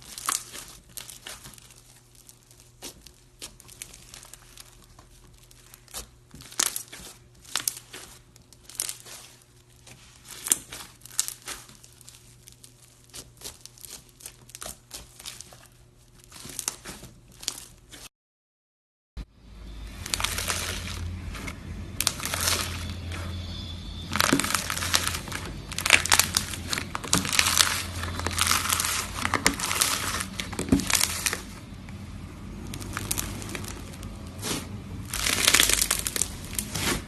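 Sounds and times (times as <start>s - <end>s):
slime crackling and snapping: 0.0s - 18.1s, 20.0s - 32.0s, 32.6s - 37.0s.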